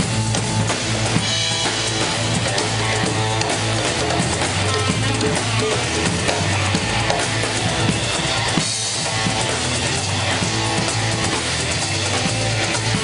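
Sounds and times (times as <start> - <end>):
congas: 0.0 - 13.0
live band instrumental groove: 0.0 - 13.0.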